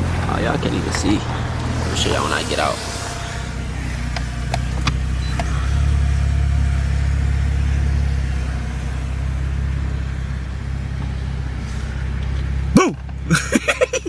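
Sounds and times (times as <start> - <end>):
car engine rumble: 0.0 - 14.0
road noise inside car: 0.0 - 14.0.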